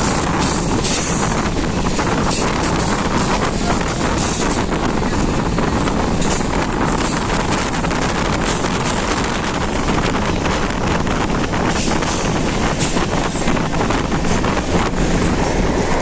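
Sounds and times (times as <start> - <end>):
train rumble: 0.0 - 16.0
wheels clattering on rails: 0.0 - 16.0
wind rushing over microphone: 0.0 - 16.0.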